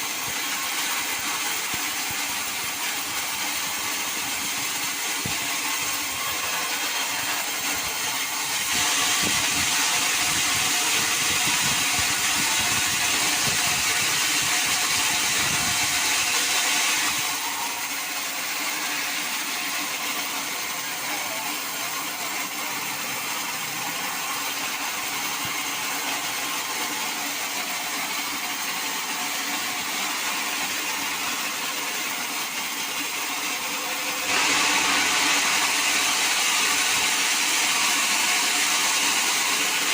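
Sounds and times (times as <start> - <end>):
saw cutting through timber: 0.0 - 39.9.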